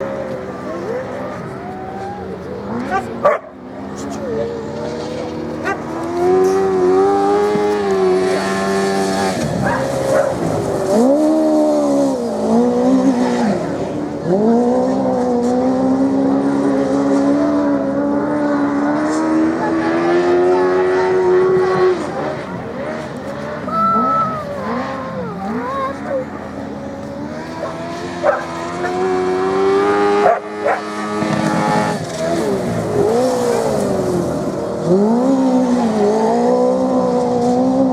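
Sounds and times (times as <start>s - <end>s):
racing motorcycle engines revving: 0.0s - 37.9s.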